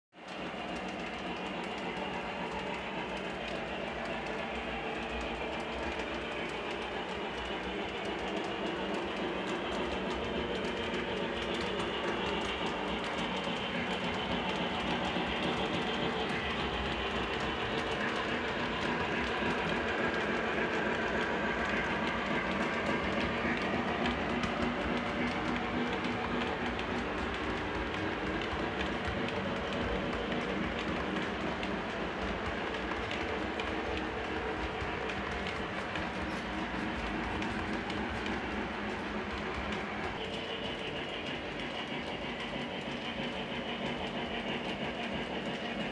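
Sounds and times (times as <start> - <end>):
model train rumbling on track: 0.2 - 45.9.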